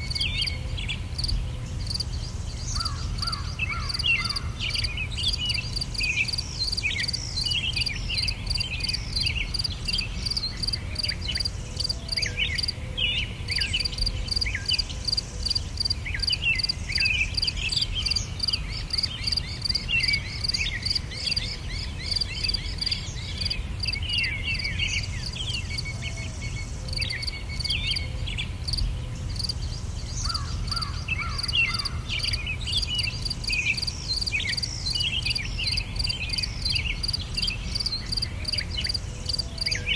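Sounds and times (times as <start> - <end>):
pulsing insect chorus: 0.0 - 12.8, 13.4 - 39.9
birds chirping and singing: 0.0 - 39.9.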